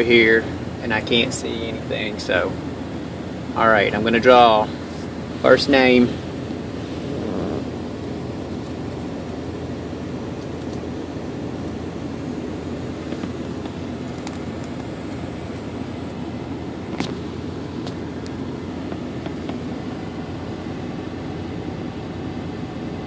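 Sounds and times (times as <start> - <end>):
low rushing vehicle cab noise: 0.0 - 23.0.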